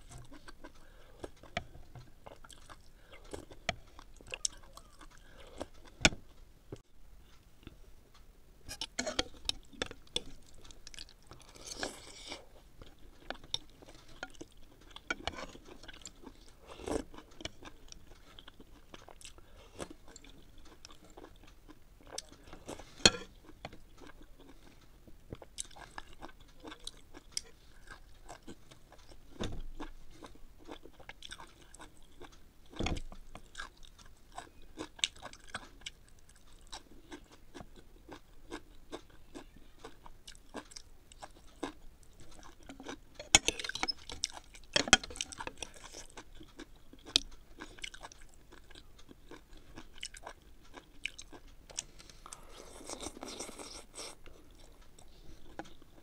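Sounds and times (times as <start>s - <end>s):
chewing and crunching food: 0.0s - 7.8s, 8.7s - 56.0s.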